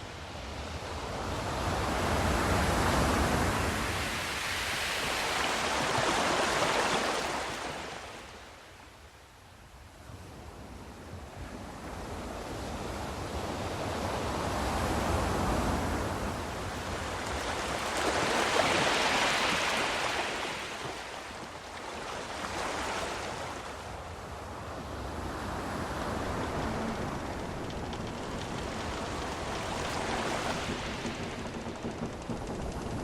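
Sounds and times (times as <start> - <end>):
sea waves washing: 1.0 - 8.4, 12.7 - 33.0.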